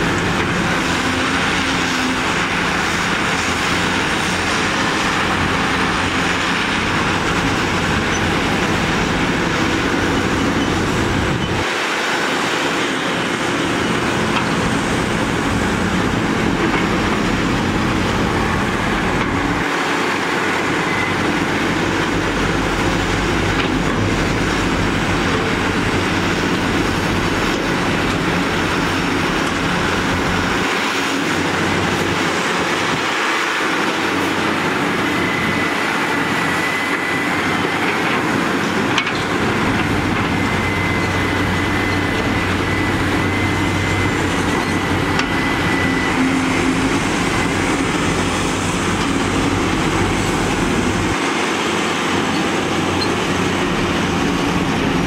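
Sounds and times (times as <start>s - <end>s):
excavator diesel engine rumbling: 0.0s - 55.0s.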